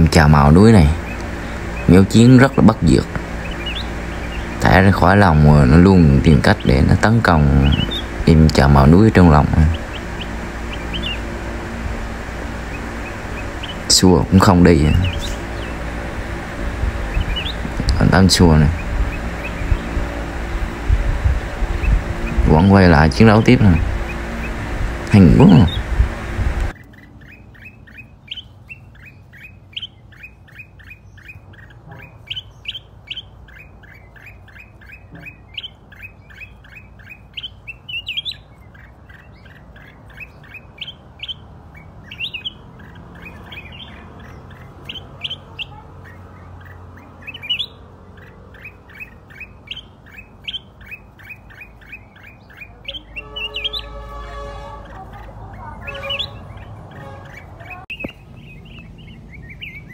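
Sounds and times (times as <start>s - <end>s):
birds chirping sharply: 0.0s - 59.9s
steady buzzing: 0.0s - 59.9s.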